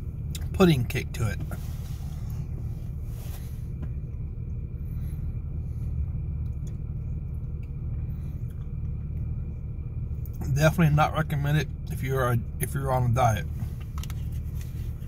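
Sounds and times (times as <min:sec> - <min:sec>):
car cabin rumble: 0:00.0 - 0:15.0
faint high whine: 0:00.0 - 0:15.0.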